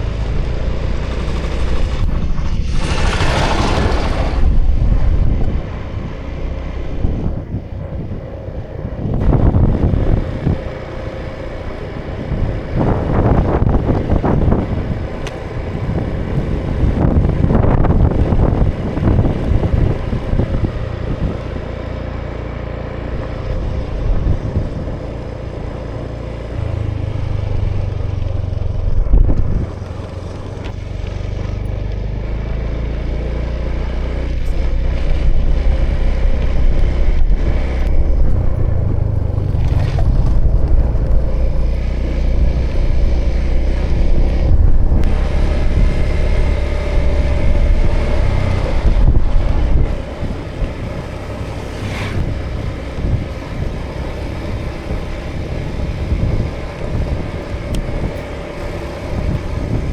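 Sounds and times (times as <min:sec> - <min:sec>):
scooter engine running: 0:00.0 - 0:59.9
wind rumble on microphone: 0:00.0 - 0:59.9.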